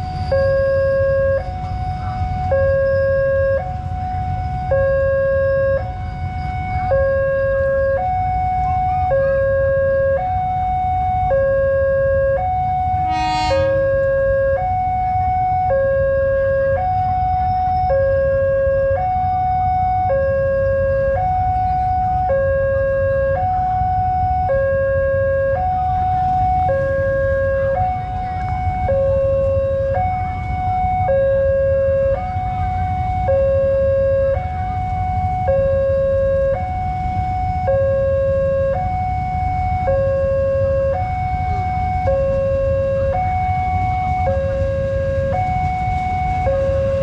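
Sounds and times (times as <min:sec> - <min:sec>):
level crossing two-tone alarm: 0:00.0 - 0:47.0.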